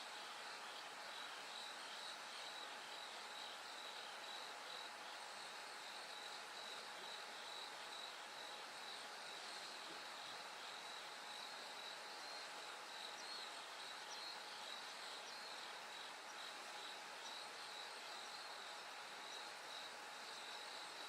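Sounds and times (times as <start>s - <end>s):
crickets chirping: 1.1s - 21.0s.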